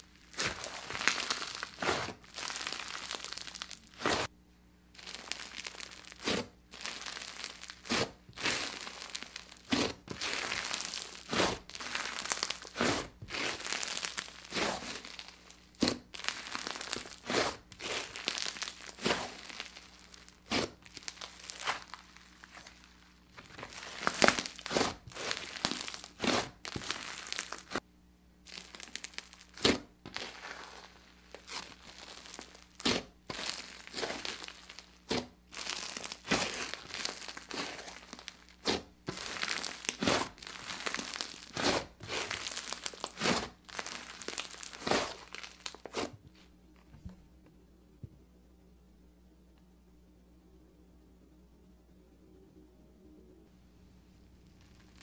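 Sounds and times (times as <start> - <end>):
slime crackling and squishing: 0.0 - 4.3, 4.9 - 27.8, 28.4 - 46.5, 54.4 - 55.0.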